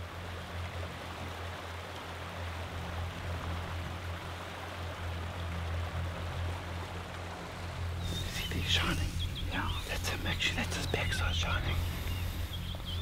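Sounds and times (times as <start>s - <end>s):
river flowing over stones: 0.0s - 12.6s
low steady hum: 0.0s - 13.0s.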